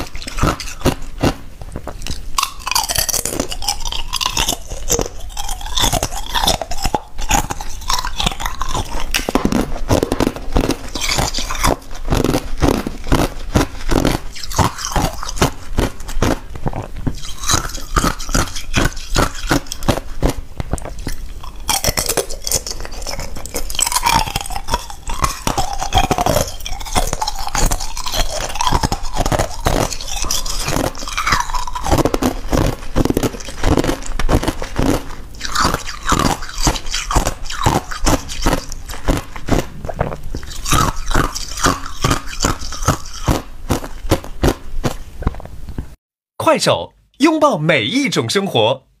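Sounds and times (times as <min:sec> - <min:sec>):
ice crunching while chewed: 0:00.0 - 0:46.0.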